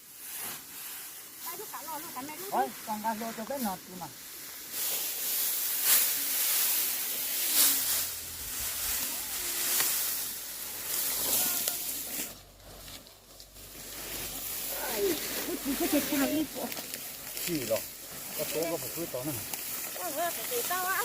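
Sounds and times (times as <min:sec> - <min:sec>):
dry rice stalks rustling: 0:00.0 - 0:21.0.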